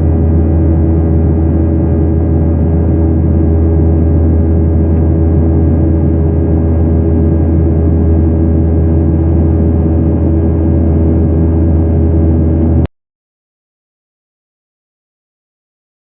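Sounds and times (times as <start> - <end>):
airplane cabin engine drone: 0.0 - 12.9.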